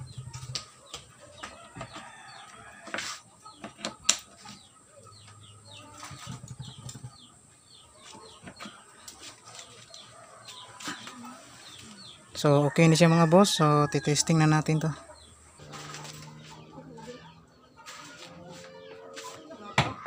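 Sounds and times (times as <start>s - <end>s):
birds chirping: 0.0s - 20.0s
chickens clucking: 0.0s - 20.0s.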